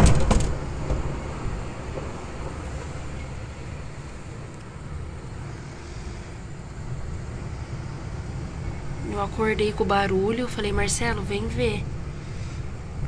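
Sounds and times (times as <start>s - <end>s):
strong storm wind through window: 0.0s - 13.0s.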